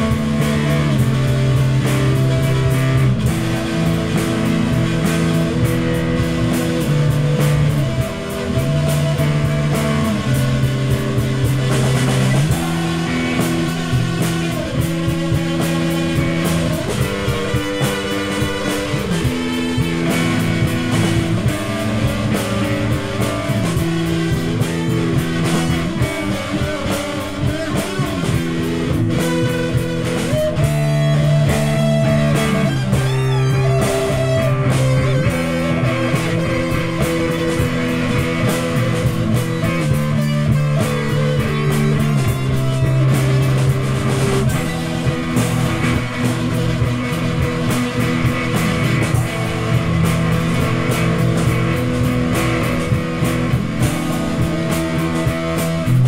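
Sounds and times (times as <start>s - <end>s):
psychedelic rock jam: 0.0s - 56.0s.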